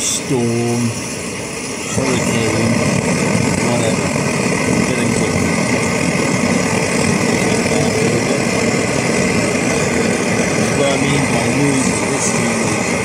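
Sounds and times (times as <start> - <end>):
camping stove burner rushing: 0.0 - 13.0.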